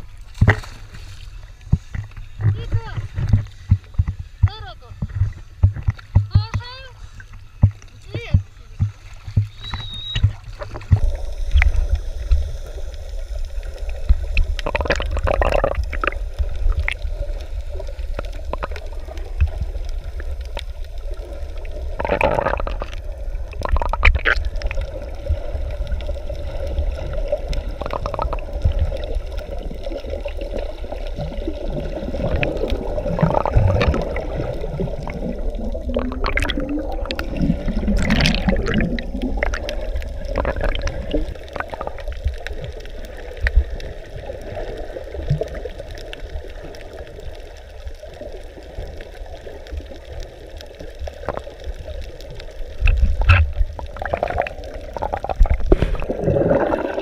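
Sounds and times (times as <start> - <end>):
water gurgling and sloshing: 0.0 - 57.0
water splashes: 0.0 - 57.0.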